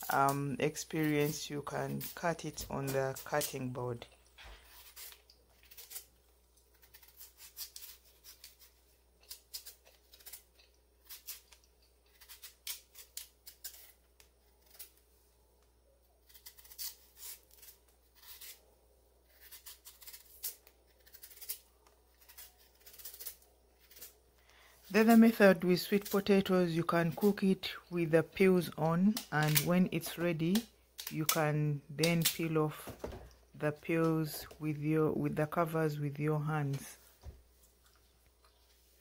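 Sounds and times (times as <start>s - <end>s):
knife peeling sweet potato: 0.0s - 15.2s, 16.0s - 32.9s.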